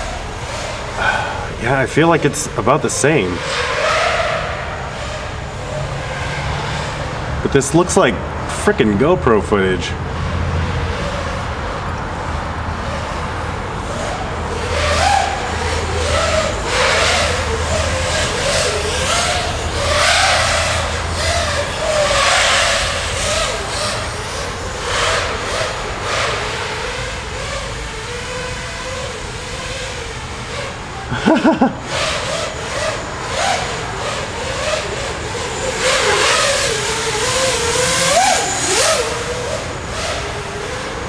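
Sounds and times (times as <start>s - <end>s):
quadcopter motor whine: 0.0s - 41.0s.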